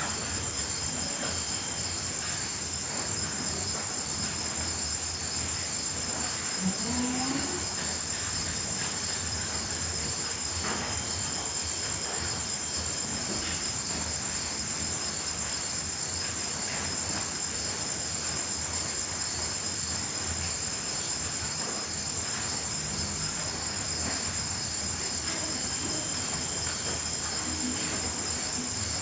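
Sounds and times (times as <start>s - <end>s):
crickets trilling: 0.0s - 29.0s.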